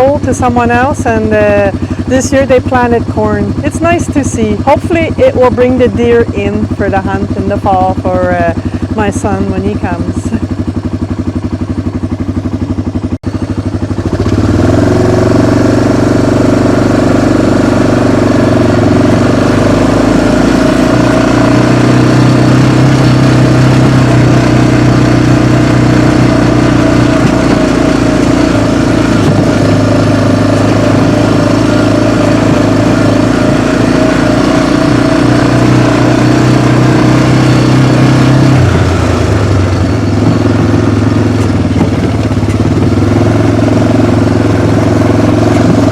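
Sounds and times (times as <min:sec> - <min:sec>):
small vehicle engine running: 0:00.0 - 0:45.9.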